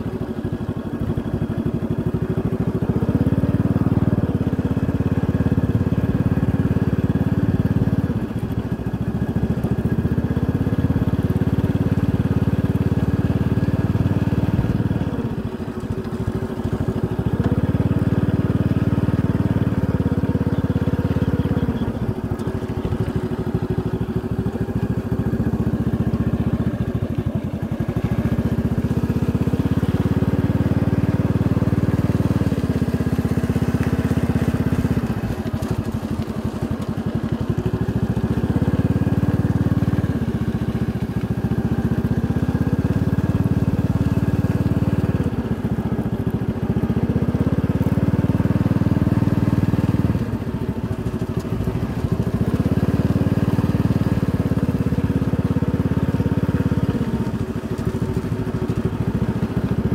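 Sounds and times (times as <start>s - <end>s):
small motorcycle engine: 0.0s - 59.9s.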